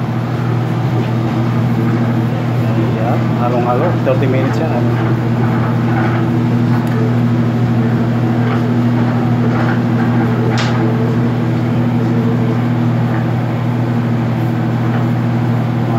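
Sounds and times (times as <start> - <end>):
dough mixer motor humming: 0.0 - 15.9.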